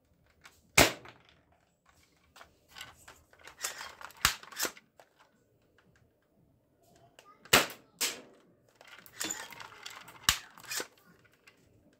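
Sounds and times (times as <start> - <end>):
plastic rifle rattling and clicking: 0.0 - 6.3, 7.4 - 11.9.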